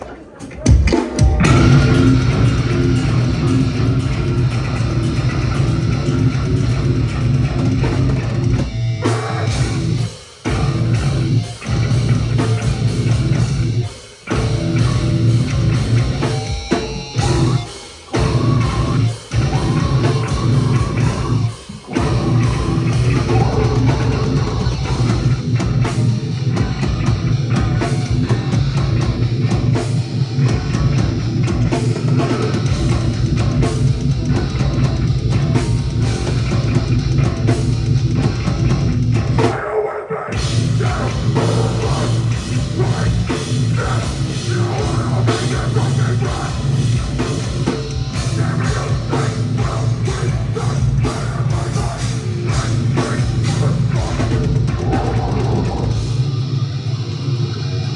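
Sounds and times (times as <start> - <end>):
heavy rock music: 0.3 - 57.9.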